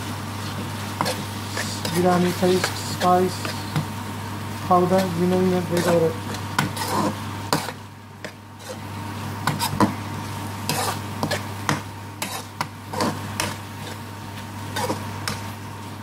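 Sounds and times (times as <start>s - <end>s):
spoon scraping frying pan: 0.9s - 3.9s, 4.9s - 9.9s, 10.6s - 15.5s.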